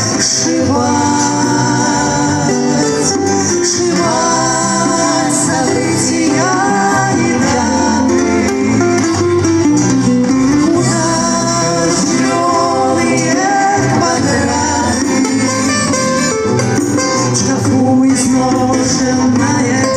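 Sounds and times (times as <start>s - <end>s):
person singing: 0.0s - 9.4s, 10.4s - 16.2s, 17.2s - 19.9s
acoustic guitar: 0.0s - 19.9s.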